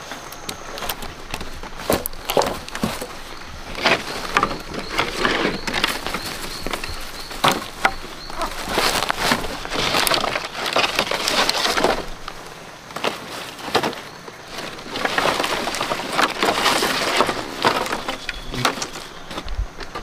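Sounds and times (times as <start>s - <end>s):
dry branches knocking and scraping: 0.0s - 20.0s.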